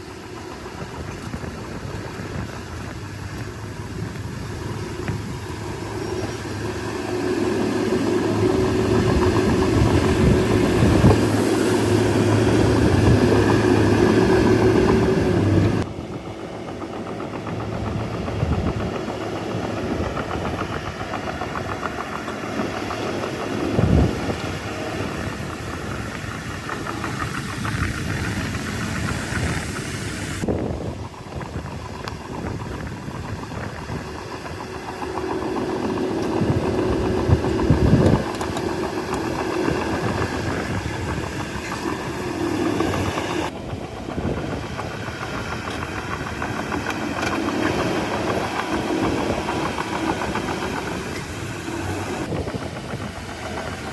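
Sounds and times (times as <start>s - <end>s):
bulldozer diesel engine: 0.0s - 53.9s.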